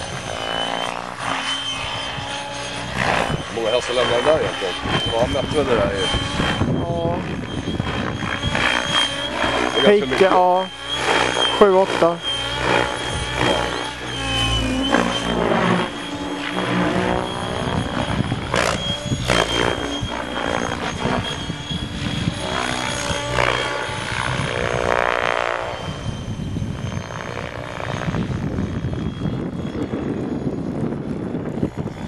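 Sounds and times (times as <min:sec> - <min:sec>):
model helicopter rotor and motor: 0:00.0 - 0:32.0
thin high whine: 0:00.0 - 0:32.0.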